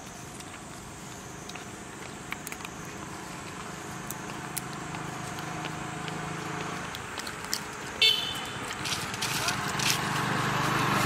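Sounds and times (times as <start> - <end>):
background noise: 0.0 - 11.0
low engine hum: 0.0 - 11.0.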